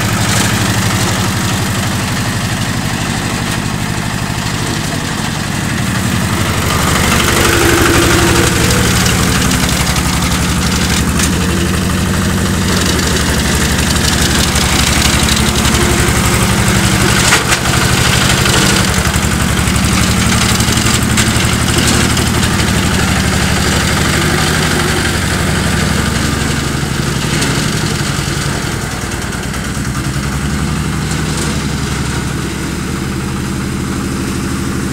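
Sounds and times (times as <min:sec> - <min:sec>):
small tractor engine running: 0:00.0 - 0:34.9.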